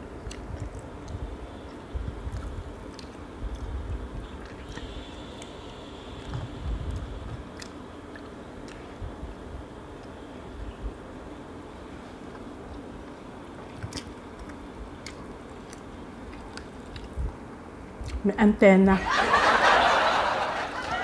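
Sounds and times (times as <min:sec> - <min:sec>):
biting and chewing: 0:00.0 - 0:10.9, 0:12.0 - 0:18.2.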